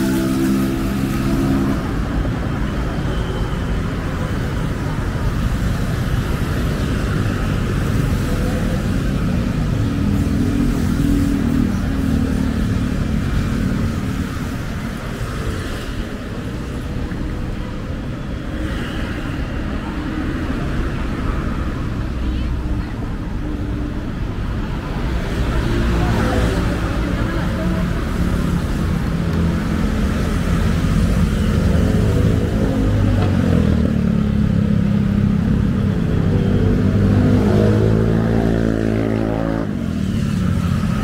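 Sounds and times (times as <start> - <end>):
car and motorcycle engines passing: 0.0 - 3.1, 3.8 - 41.0
low traffic rumble: 0.0 - 41.0.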